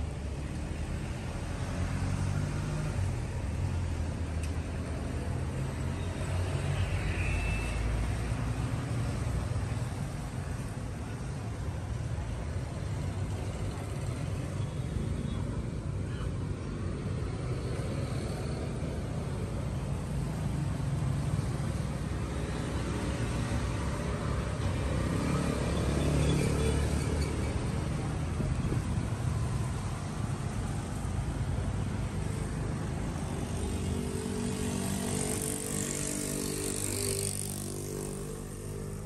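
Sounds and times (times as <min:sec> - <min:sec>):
low rumble of street traffic: 0:00.0 - 0:39.0.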